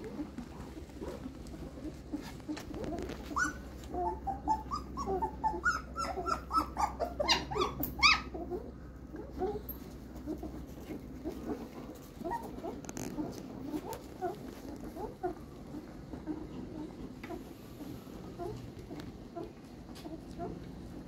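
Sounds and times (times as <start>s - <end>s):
puppy whimpering: 0.0s - 20.8s
steady low hum: 0.0s - 21.0s.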